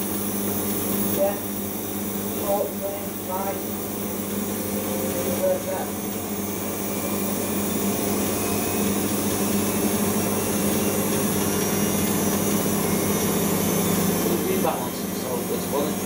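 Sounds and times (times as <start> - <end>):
washing machine spinning: 0.0 - 16.0.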